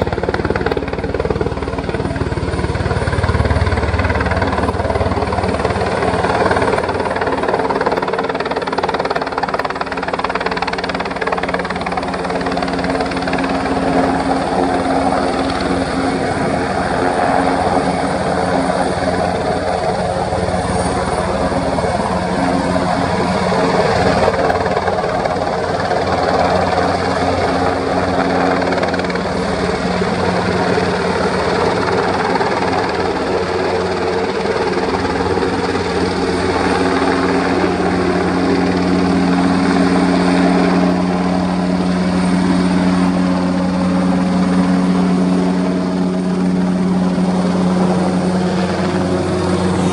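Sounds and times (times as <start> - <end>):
helicopter rotors and turbine hum: 0.0 - 49.9.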